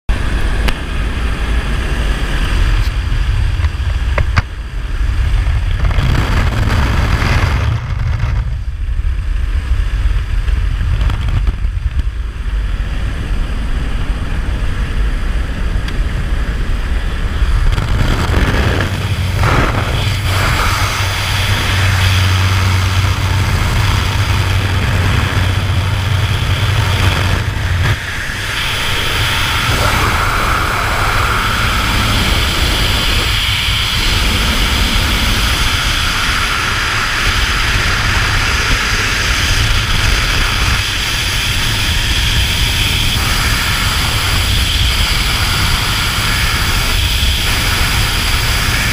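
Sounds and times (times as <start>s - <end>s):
propeller engine drone: 0.1s - 48.9s
wind rushing: 0.2s - 48.9s.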